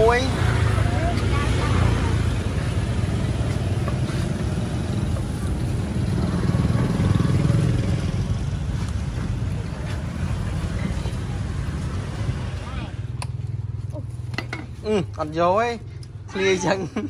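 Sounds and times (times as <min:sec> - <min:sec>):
motorbikes and cars passing: 0:00.0 - 0:17.0.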